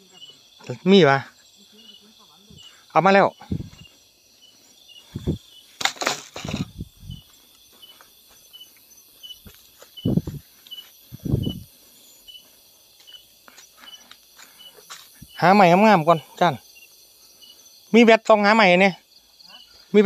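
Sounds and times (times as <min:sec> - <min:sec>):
night insect chirping: 0:00.0 - 0:20.0.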